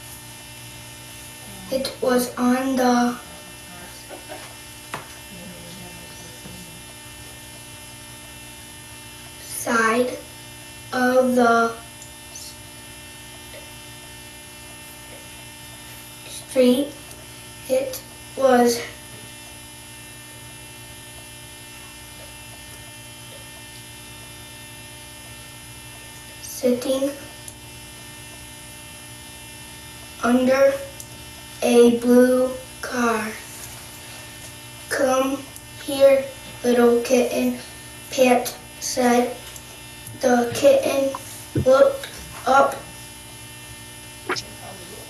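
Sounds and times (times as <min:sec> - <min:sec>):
electrical mains hum: 0:00.0 - 0:45.0.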